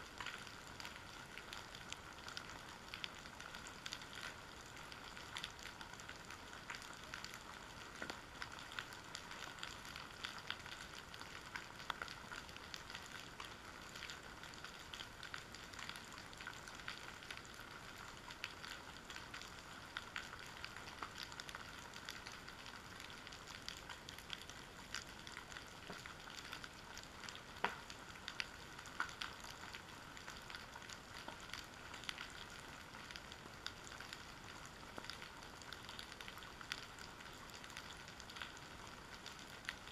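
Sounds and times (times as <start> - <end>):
underwater crackle of tiny clicks: 0.0 - 39.9.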